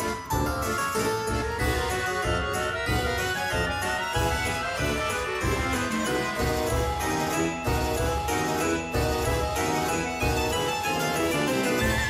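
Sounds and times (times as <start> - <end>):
bright melody over low beat: 0.0 - 12.0.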